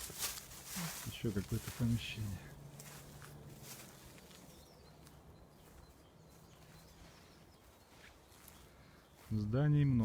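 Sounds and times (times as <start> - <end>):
distant birds chirping: 0.0 - 10.0.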